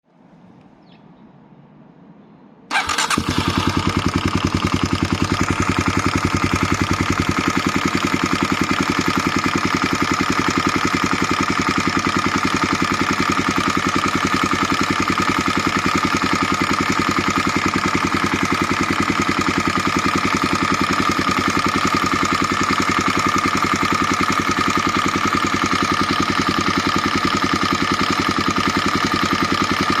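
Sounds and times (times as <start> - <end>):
motorcycle engine starting and idling: 2.7 - 30.0.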